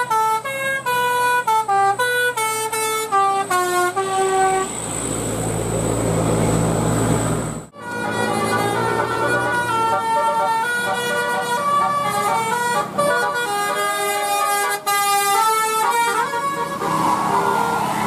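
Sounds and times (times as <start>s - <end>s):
air horn melody: 0.0s - 4.7s, 7.7s - 18.0s.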